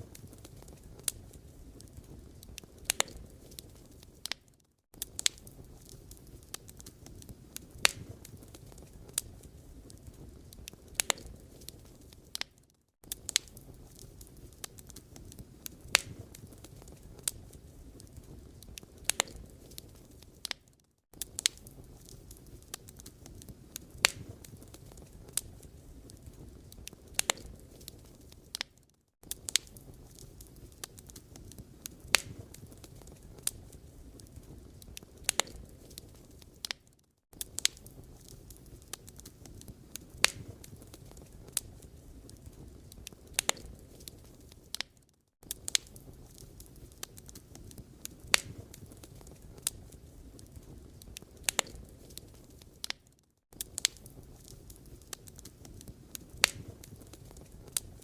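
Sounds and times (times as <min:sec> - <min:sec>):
low rumble of flame: 0:00.0 - 0:36.8, 0:37.4 - 0:53.0, 0:53.6 - 0:58.0
fire crackling and popping: 0:00.0 - 0:58.0.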